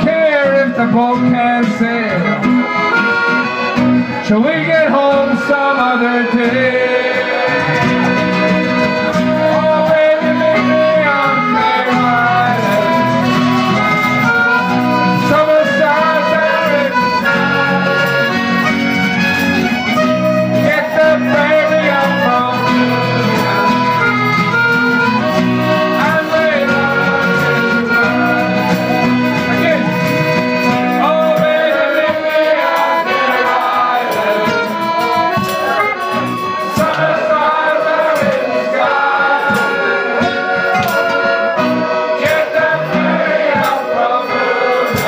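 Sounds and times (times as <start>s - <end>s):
accordion melody: 0.0s - 45.0s
acoustic guitar: 0.0s - 45.0s.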